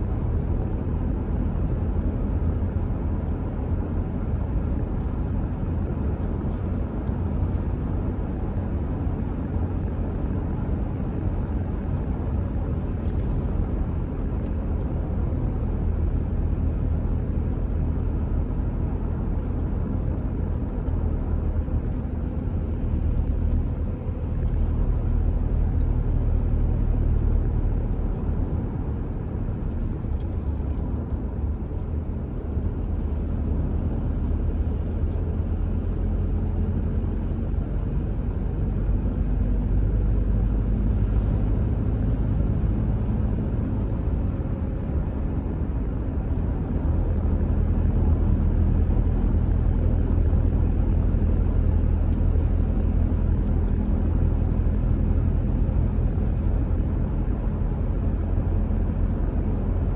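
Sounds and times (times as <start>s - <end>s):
car engine rumble: 0.0s - 59.9s
tyre road noise: 0.0s - 59.9s.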